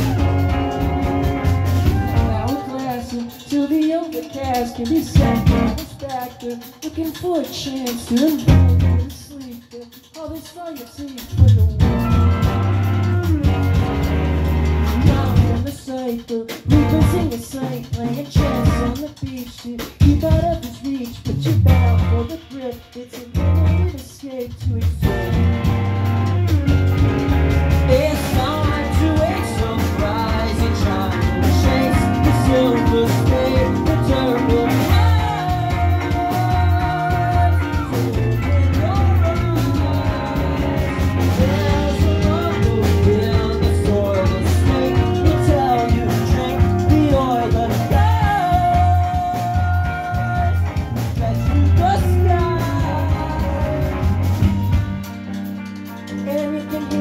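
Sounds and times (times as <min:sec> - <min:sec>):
bass guitar: 0:00.0 - 0:09.4, 0:11.1 - 0:57.0
person singing lead vocal: 0:00.0 - 0:26.6, 0:27.8 - 0:55.4, 0:56.0 - 0:57.0
drums: 0:00.0 - 0:57.0
electric guitar: 0:00.0 - 0:57.0.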